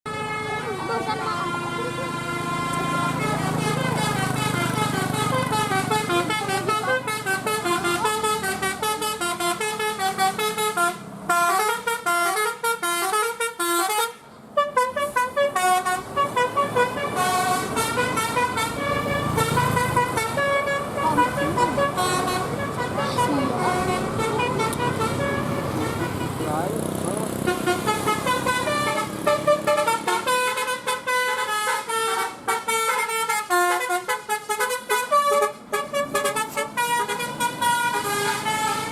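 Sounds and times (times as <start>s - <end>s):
bus engine running: 0.1s - 38.9s
musical air horns: 0.1s - 38.9s.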